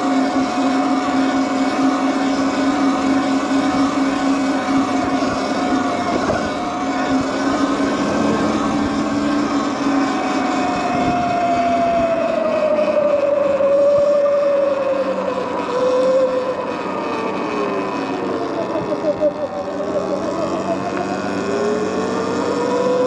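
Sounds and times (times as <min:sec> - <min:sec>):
electric bike motor whining: 0:00.0 - 0:23.0
rushing noise: 0:00.0 - 0:23.0.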